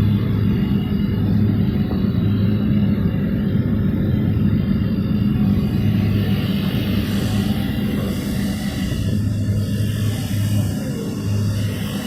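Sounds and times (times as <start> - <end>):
chiller compressor hum: 0.0 - 12.0
fan air rushing: 0.0 - 12.0.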